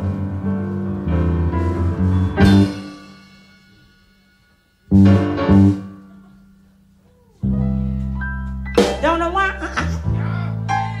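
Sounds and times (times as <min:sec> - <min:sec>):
live band chords ringing: 0:00.0 - 0:11.0.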